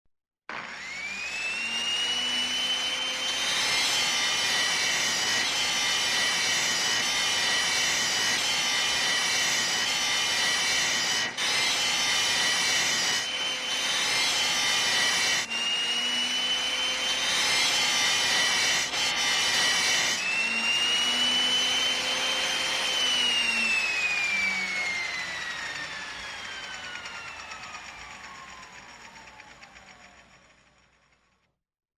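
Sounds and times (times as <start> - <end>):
electric router motor whining: 0.5 - 31.0.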